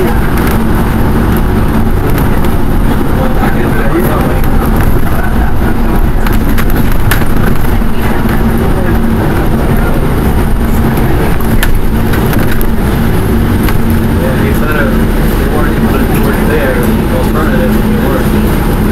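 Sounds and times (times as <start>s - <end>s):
bus engine and road rumble: 0.0s - 18.9s
constant hum: 0.0s - 18.9s.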